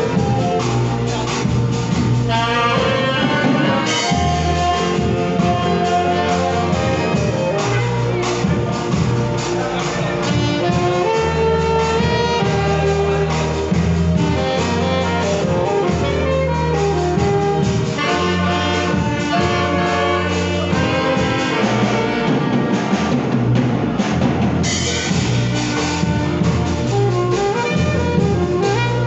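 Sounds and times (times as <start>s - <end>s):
saxophone ensemble playing a hymn: 0.0s - 29.0s
slow bass line: 0.0s - 29.0s.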